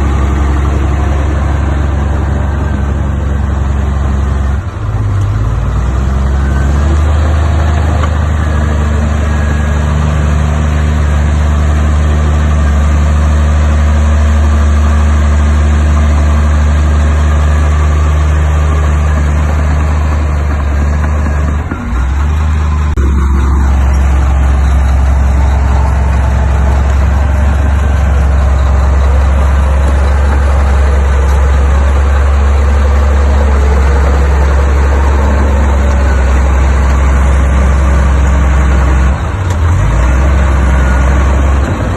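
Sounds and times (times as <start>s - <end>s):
heavy diesel engine humming: 0.0s - 41.9s.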